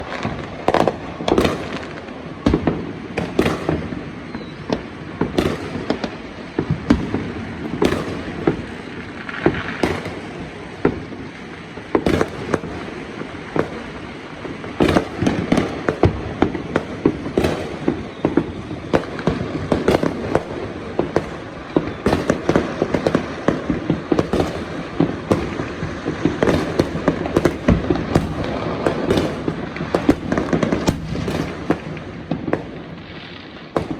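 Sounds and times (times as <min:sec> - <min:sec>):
fireworks bangs and pops: 0:00.0 - 0:33.9.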